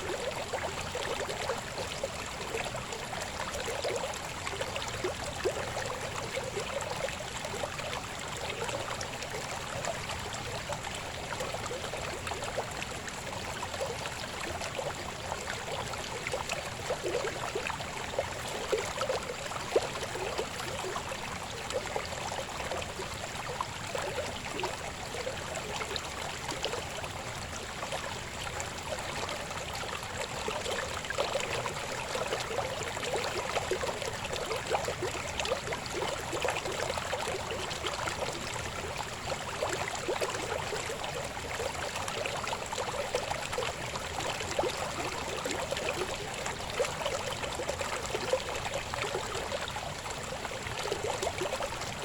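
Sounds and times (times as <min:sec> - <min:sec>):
babbling river flowing: 0:00.0 - 0:52.0.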